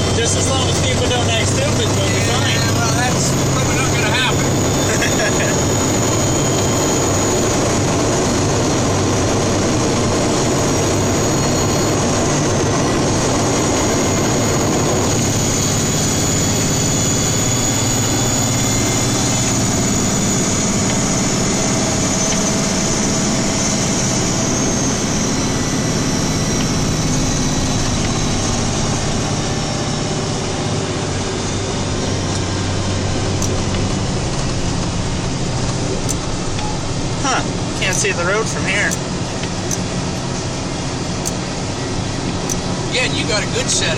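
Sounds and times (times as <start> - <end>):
faint high whine: 0.0 - 43.9
road noise rushing: 0.0 - 43.9
truck engine droning: 0.0 - 43.9.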